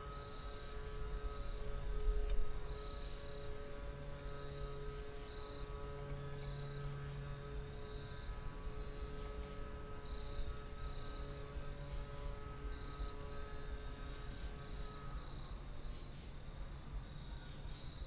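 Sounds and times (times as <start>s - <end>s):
faint low hum: 0.0s - 18.0s
high insect trill: 0.0s - 18.0s.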